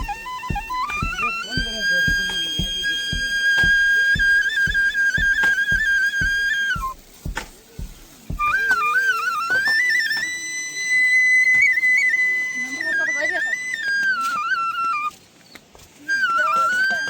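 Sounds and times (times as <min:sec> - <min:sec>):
flute melody with trills: 0:00.0 - 0:15.2, 0:16.0 - 0:17.0.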